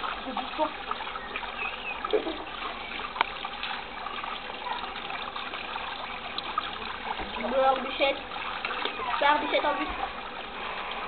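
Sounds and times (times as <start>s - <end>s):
hose water splashing into pool: 0.0s - 11.0s.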